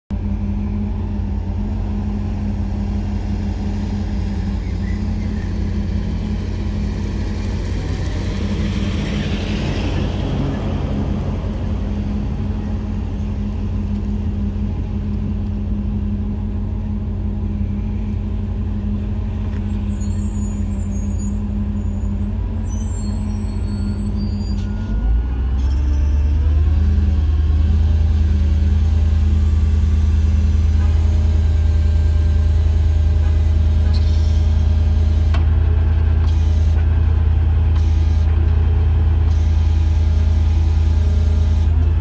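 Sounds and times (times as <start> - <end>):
truck engine idling: 0.1 - 42.0.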